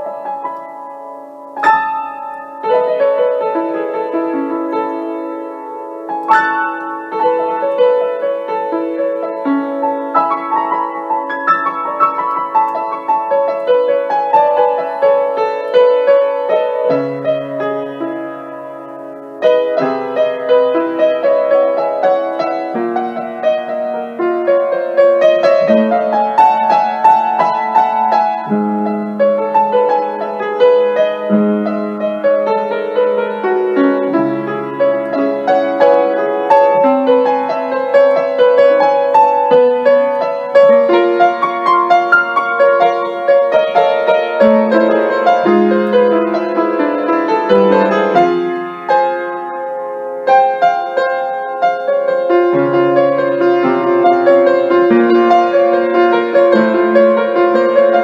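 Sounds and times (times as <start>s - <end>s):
solo upright piano: 0.0s - 58.0s.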